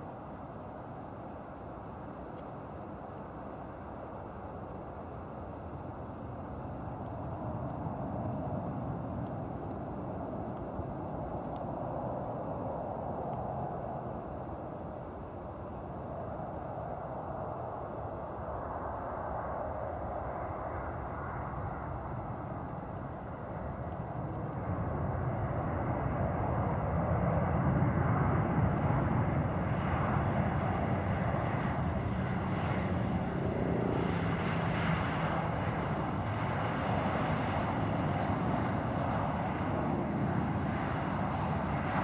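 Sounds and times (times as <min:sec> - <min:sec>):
jet engines of landing airliner: 0:00.0 - 0:42.0.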